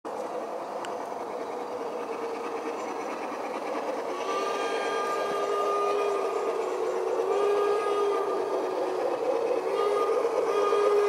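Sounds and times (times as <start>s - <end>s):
model locomotive whine: 0.1s - 11.0s.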